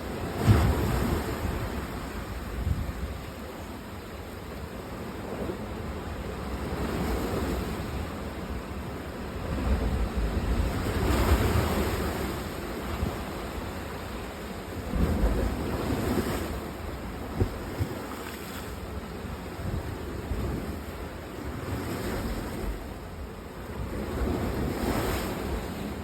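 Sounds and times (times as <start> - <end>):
sea waves washing ashore: 0.0 - 26.0
wind: 0.0 - 26.0.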